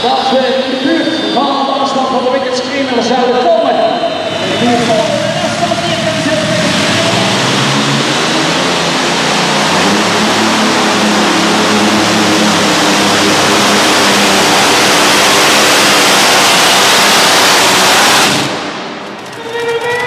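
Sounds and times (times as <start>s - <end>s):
pulling tractor engines roaring: 0.0s - 20.0s.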